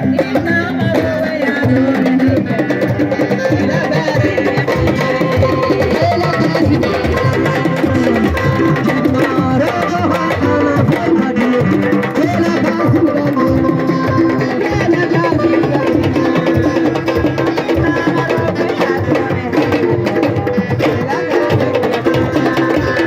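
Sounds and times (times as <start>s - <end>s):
music with hand drums: 0.0s - 23.0s.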